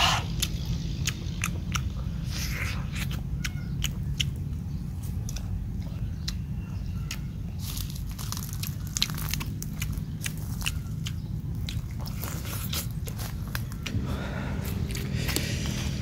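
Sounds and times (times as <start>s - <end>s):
person chewing and biting: 0.0s - 14.0s, 14.6s - 16.0s
steady low hum: 0.0s - 16.0s.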